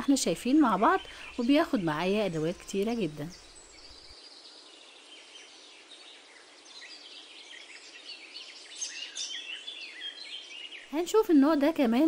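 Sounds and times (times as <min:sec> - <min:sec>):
faint birdsong chirps: 0:00.0 - 0:12.0
light hiss: 0:00.2 - 0:11.0.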